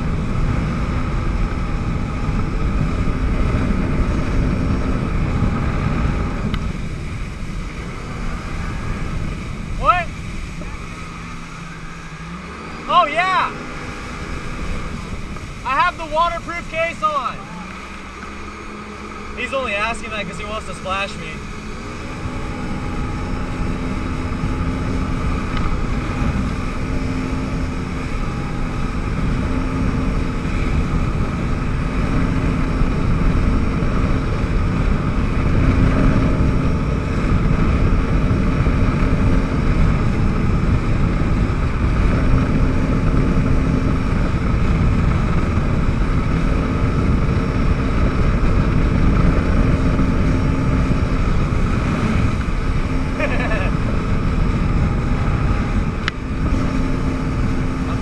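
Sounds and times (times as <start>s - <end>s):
rush of spray and wind: 0.0s - 58.0s
watercraft engine drone: 0.0s - 58.0s.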